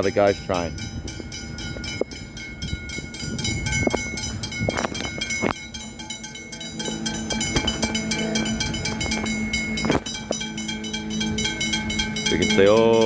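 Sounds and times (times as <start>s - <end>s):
level crossing bells ringing: 0.0s - 13.0s
train hum: 0.0s - 13.0s.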